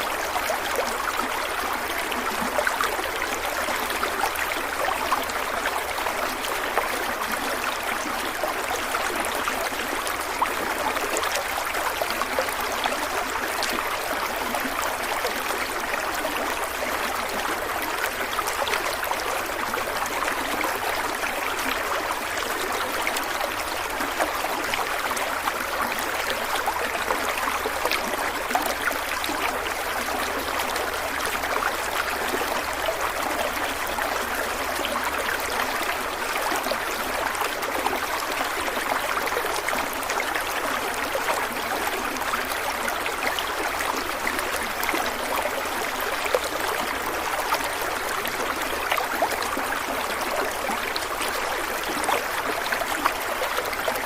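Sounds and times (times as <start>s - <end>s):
stream of water trickling: 0.0s - 54.0s.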